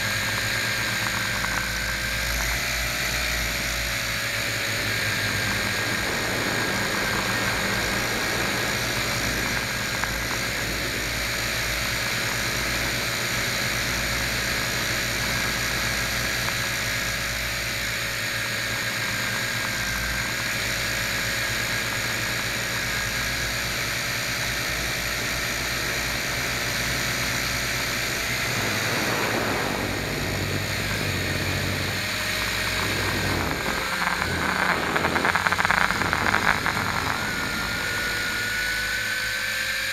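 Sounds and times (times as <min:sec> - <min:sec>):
model aircraft motor droning: 0:00.0 - 0:39.9.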